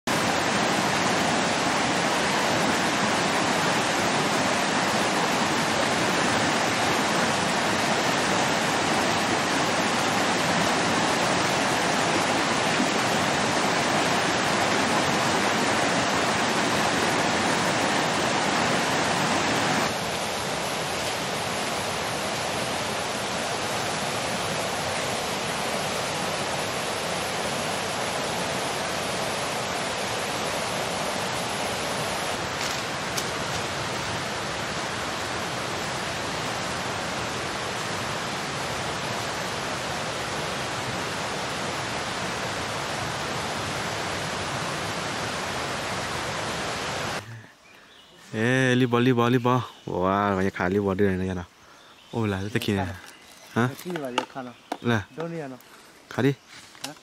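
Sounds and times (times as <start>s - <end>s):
stream rushing over rocks: 0.0s - 47.3s.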